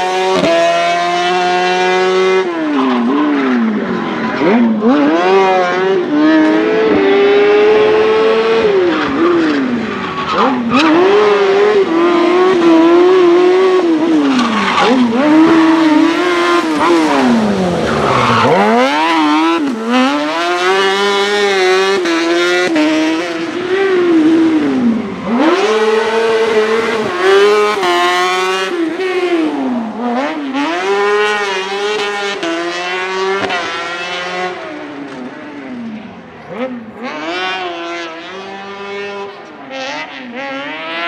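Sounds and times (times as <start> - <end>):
motorcycle engine revving: 0.0 - 35.8.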